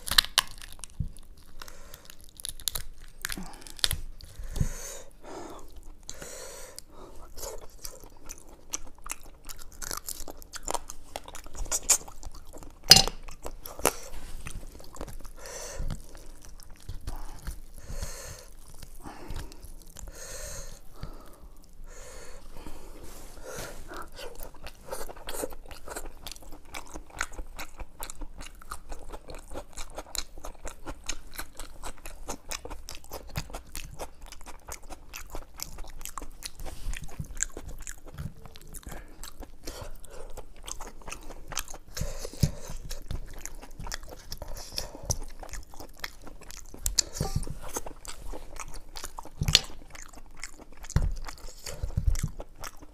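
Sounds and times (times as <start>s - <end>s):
person chewing wetly: 0.0s - 22.8s, 23.7s - 52.9s.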